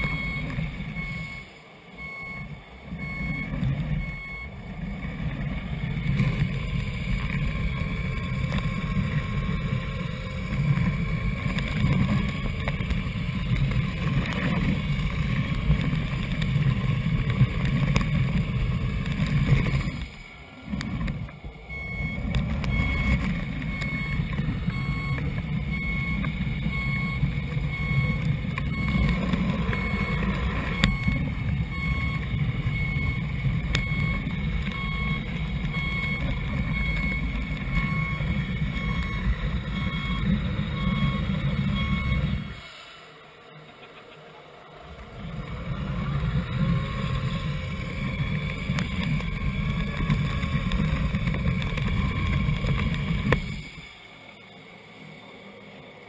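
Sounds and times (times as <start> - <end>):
reversing beeper: 0.0 - 44.1, 44.9 - 55.5
diesel engine rumble: 0.0 - 56.0.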